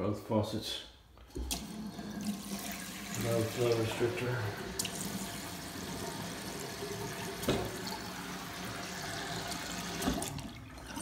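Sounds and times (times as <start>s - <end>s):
faucet water splashing into sink: 1.3s - 11.0s.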